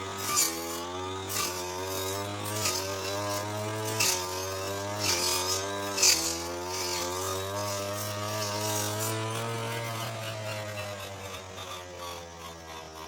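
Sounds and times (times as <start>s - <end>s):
blade swishing through grass: 0.0s - 13.0s
brush cutter engine: 0.0s - 13.0s.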